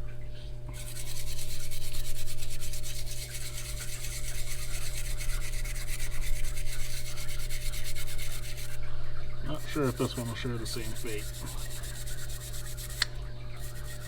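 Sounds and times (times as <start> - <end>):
steady low hum: 0.0 - 14.0
wire brush scrubbing metal: 0.7 - 8.8, 9.5 - 14.0.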